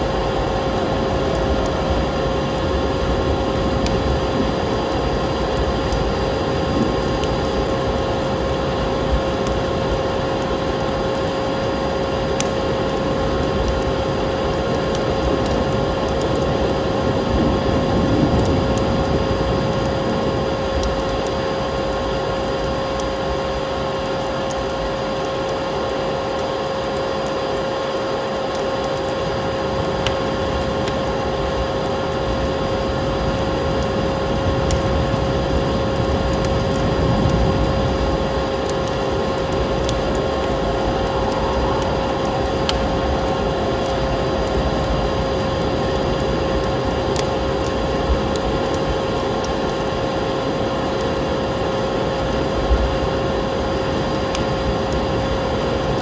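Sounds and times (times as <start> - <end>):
steady rushing noise: 0.0 - 24.1, 28.9 - 56.0
constant hum: 0.0 - 56.0
wood fire crackling and popping: 0.0 - 56.0.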